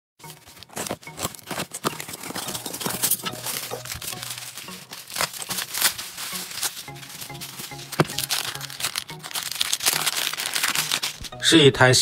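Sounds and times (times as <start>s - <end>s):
crinkling rustling handling noise: 0.2s - 11.5s
sharp clicks and crackles: 0.5s - 11.3s.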